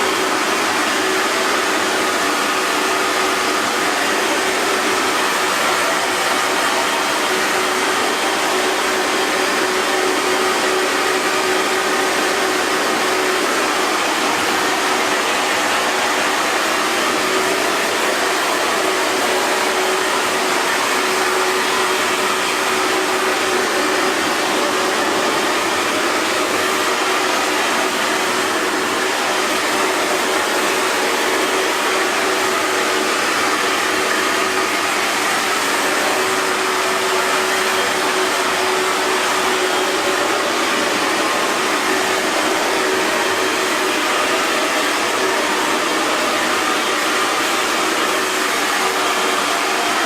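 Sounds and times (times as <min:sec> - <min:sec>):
hair dryer blowing: 0:00.0 - 0:50.0.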